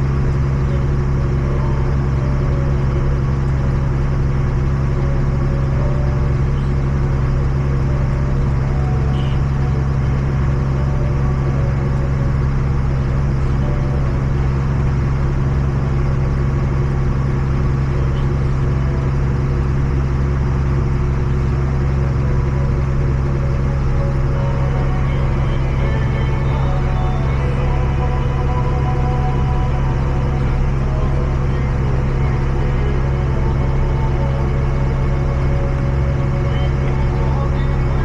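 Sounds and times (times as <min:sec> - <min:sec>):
tractor engine droning: 0:00.0 - 0:38.0.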